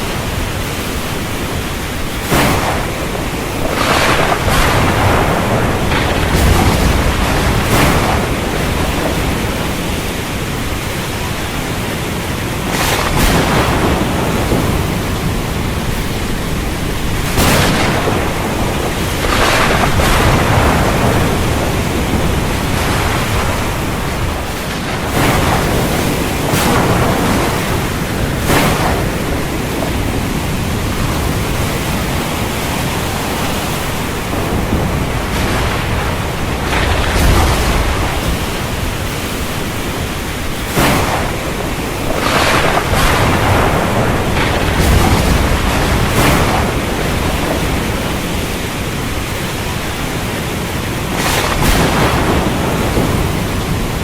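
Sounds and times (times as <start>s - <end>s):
ocean surf: 0.0s - 54.0s
storm wind: 0.0s - 54.0s.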